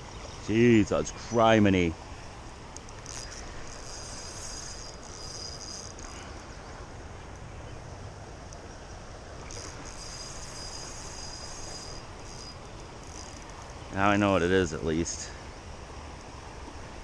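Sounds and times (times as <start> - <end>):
insects trilling: 0.0 - 6.9, 9.4 - 16.4.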